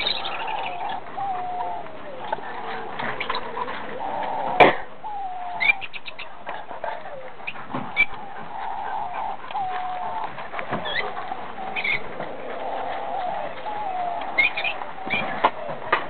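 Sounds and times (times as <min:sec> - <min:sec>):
birds calling with bending notes: 0:00.0 - 0:16.0.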